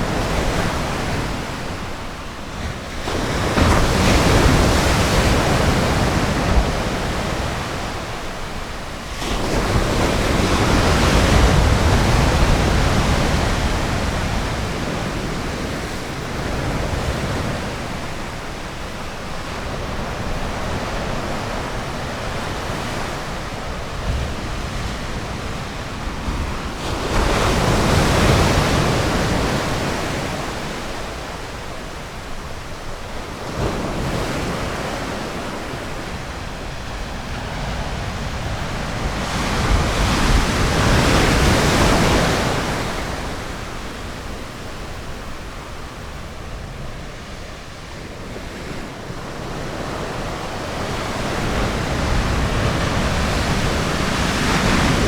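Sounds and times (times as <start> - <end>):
ocean waves washing on beach: 0.0 - 55.0
waves breaking: 0.0 - 55.0.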